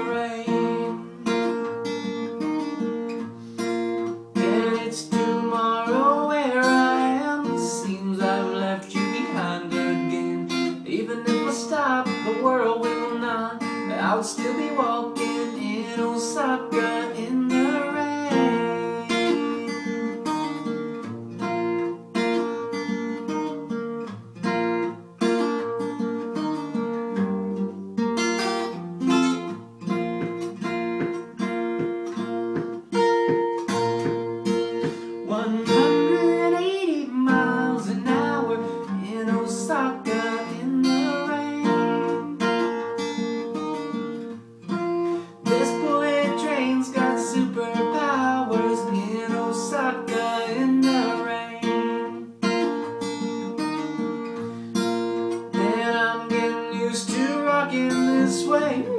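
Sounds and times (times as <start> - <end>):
acoustic guitar strumming: 0.0 - 58.9.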